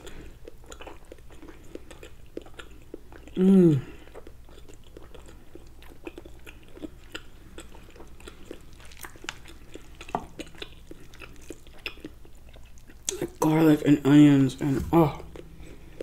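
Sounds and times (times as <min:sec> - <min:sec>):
wet chewing and mouth clicks: 0:00.0 - 0:13.9, 0:15.2 - 0:16.0.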